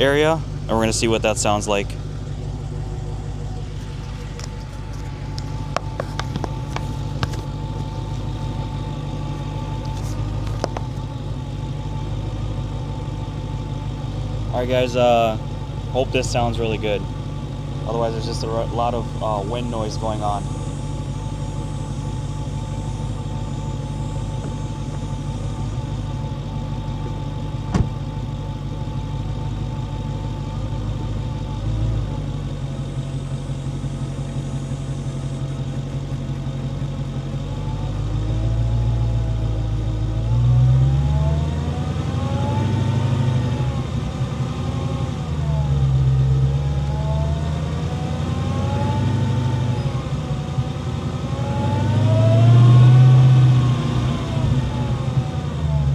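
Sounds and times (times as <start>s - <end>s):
car engine revving: 0.0s - 55.9s
supercharger whine: 0.0s - 55.9s.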